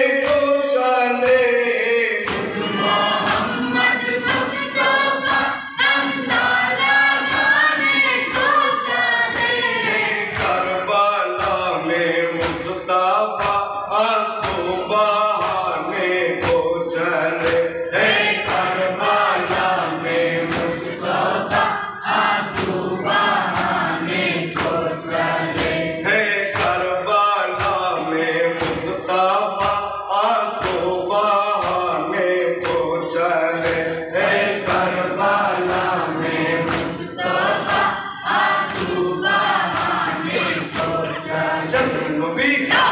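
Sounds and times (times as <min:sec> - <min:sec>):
men chanting a lament: 0:00.0 - 0:42.9.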